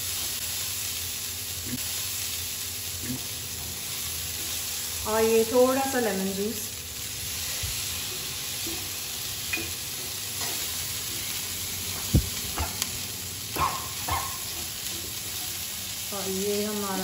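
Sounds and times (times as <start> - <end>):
food sizzling in a frying pan: 0.0 - 17.0.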